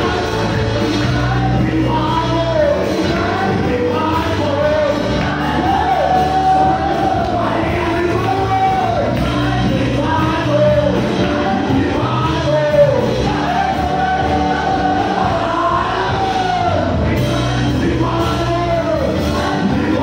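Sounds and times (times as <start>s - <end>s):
keyboard accompaniment: 0.0s - 20.0s
singers through microphones: 0.0s - 20.0s.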